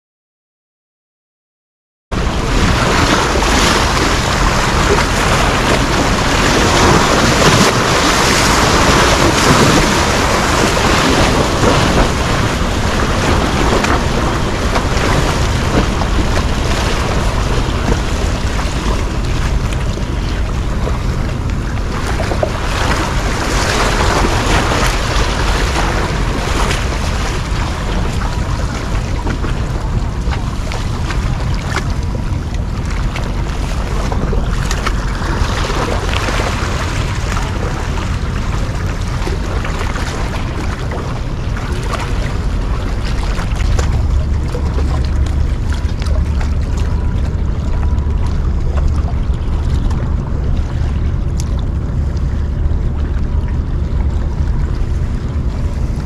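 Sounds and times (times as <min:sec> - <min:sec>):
wash of water: 0:02.2 - 0:56.0
wind rushing on microphone: 0:02.2 - 0:56.0.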